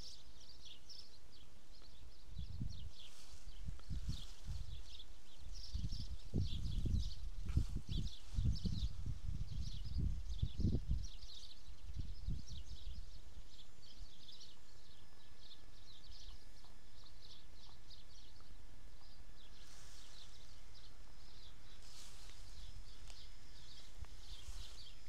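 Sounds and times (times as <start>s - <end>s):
small songbirds chirping: 0.0s - 25.0s.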